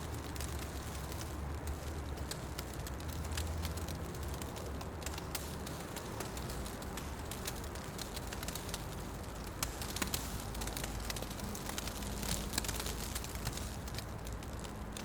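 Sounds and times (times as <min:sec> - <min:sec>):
fire crackles and pops: 0:00.0 - 0:15.0
low rush of flame: 0:00.0 - 0:15.0.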